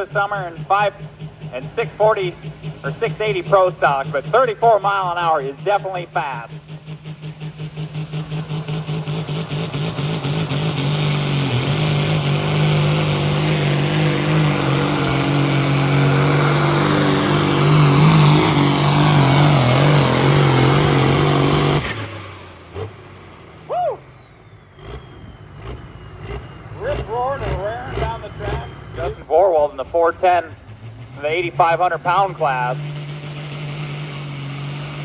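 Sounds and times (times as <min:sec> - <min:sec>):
tractor diesel engine at full throttle: 0:00.0 - 0:35.0.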